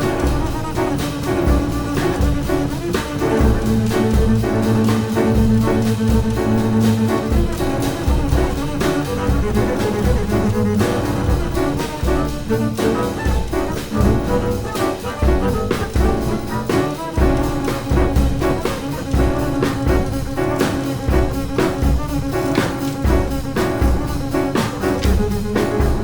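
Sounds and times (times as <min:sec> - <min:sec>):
drum and cymbal strokes: 0:00.0 - 0:26.0
jazz trio playing: 0:00.0 - 0:26.0.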